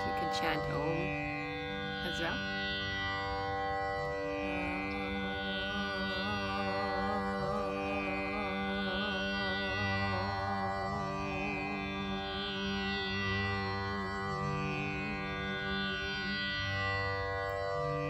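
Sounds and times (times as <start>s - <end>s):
plucked string drone: 0.0s - 18.0s.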